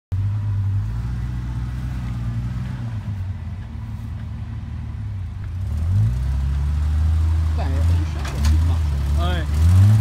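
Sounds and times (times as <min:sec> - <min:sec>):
engine running at low revs: 0:00.1 - 0:10.0.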